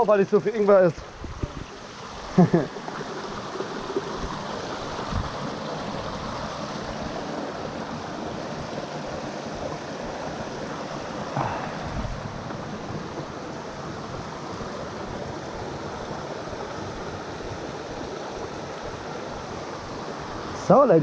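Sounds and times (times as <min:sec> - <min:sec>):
stream rushing over boulders: 0:00.0 - 0:21.0.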